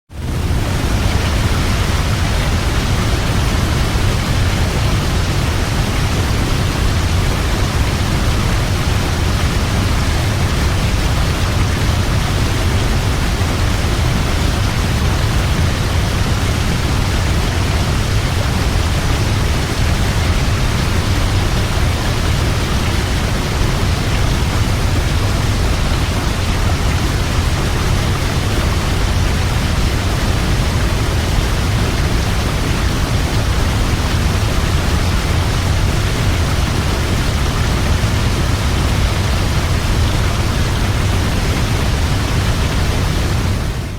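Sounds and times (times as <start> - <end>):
waterfall rushing: 0.2 - 43.9.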